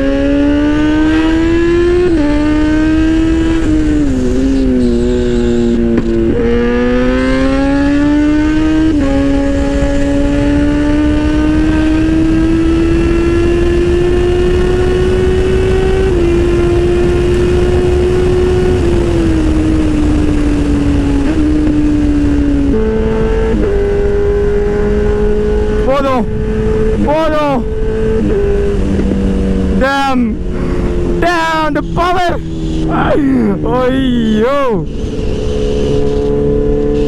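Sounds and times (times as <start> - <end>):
wind rumble on microphone: 0.0 - 33.6
motorcycle engine revving: 0.0 - 37.0.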